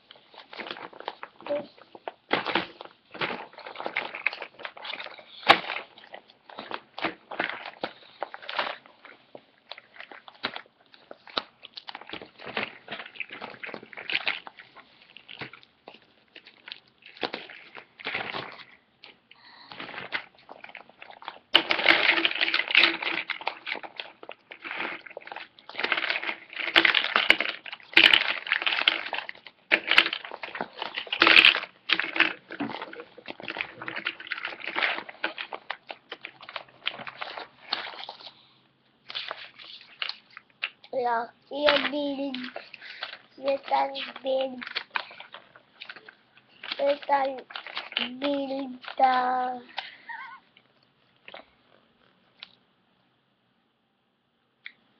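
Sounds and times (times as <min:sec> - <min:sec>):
plastic bag crinkling: 0:00.0 - 0:51.5
plastic blocks clacking: 0:00.1 - 0:38.4, 0:39.0 - 0:50.4.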